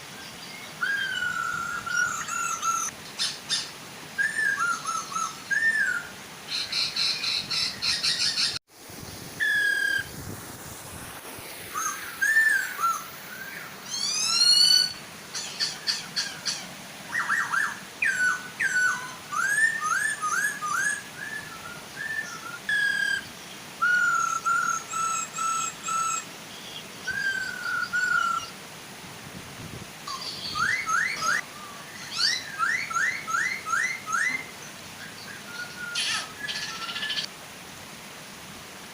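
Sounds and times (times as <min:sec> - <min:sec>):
waterfall rushing: 0:00.0 - 0:38.9
birds singing whistled phrases: 0:00.2 - 0:08.6, 0:09.4 - 0:10.1, 0:11.7 - 0:28.5, 0:30.1 - 0:37.3.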